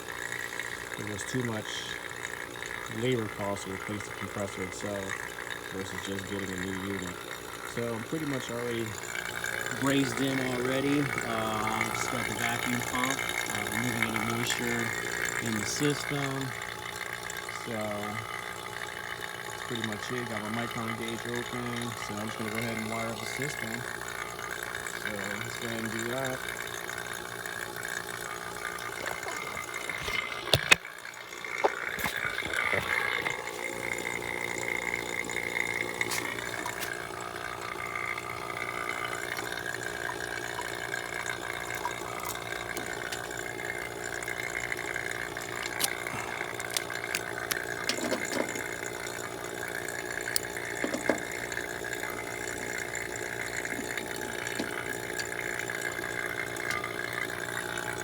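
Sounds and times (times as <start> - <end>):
vacuum pump running: 0.0 - 58.0.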